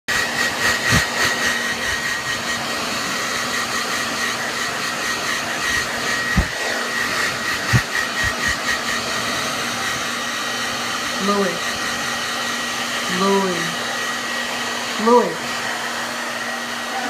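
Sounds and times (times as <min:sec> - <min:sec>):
hair dryer running: 0:00.1 - 0:17.0.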